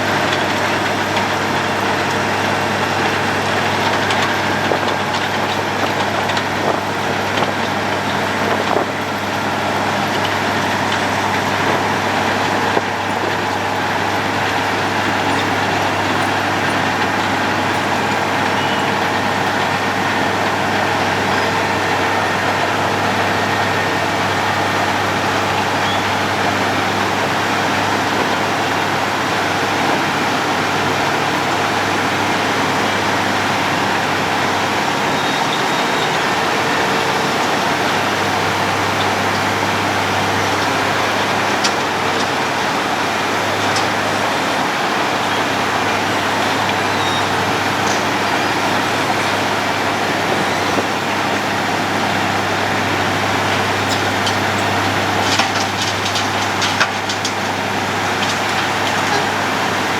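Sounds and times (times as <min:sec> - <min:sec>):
road planer machine drone: 0:00.0 - 0:59.9.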